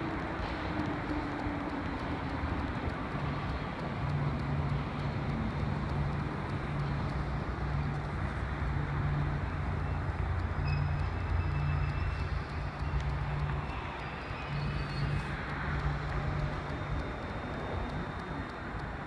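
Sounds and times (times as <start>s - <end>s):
distant helicopter drone: 0.0s - 19.0s.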